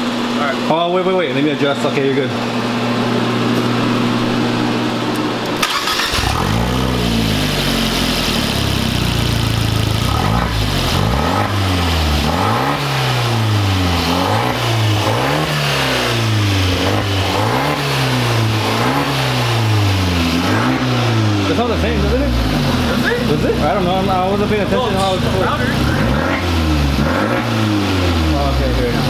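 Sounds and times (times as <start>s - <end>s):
car engine idling and revving: 2.4s - 29.0s.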